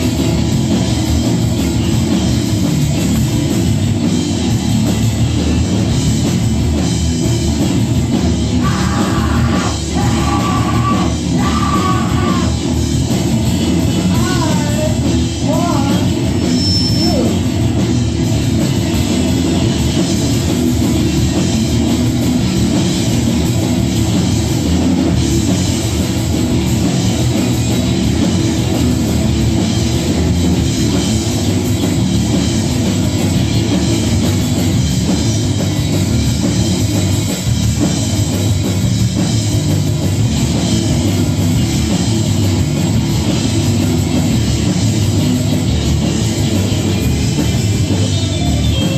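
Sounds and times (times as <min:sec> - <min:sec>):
drum kit: 0:00.0 - 0:48.9
electric guitar: 0:00.0 - 0:48.9.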